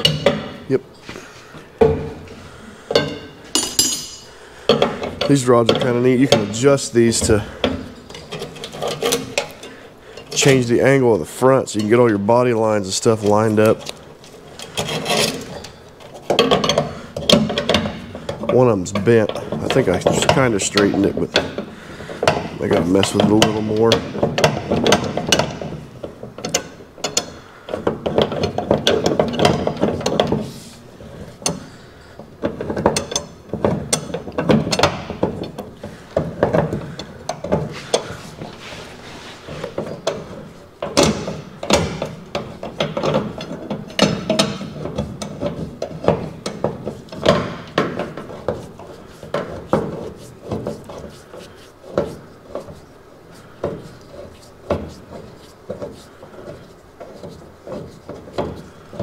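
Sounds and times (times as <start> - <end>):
metal parts knocking and clanking: 0.0 - 0.7, 2.9 - 11.0, 13.0 - 59.0.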